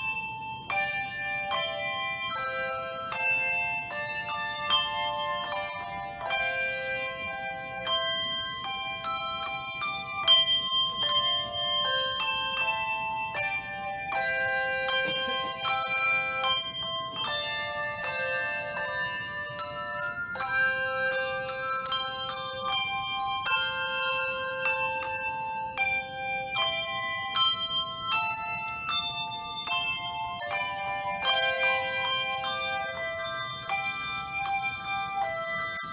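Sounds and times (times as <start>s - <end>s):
handbell choir playing a hymn: 0.0s - 35.9s.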